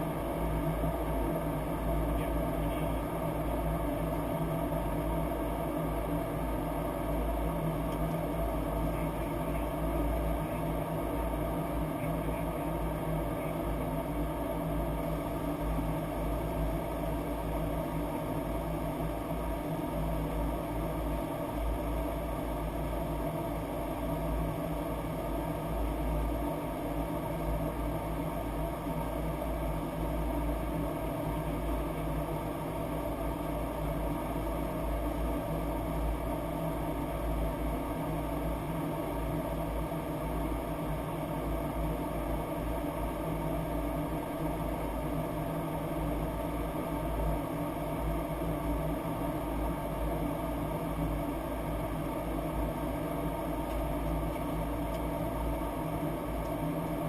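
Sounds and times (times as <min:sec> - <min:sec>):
airflow and engine hum: 0:00.0 - 0:57.0.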